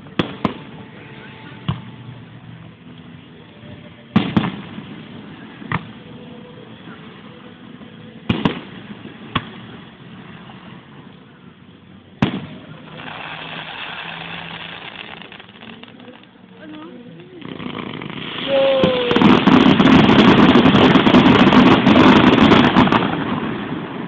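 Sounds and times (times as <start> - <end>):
fireworks bangs: 0.0 - 2.6, 3.2 - 11.1, 12.1 - 24.0
fireworks hissing crackle: 0.0 - 24.0.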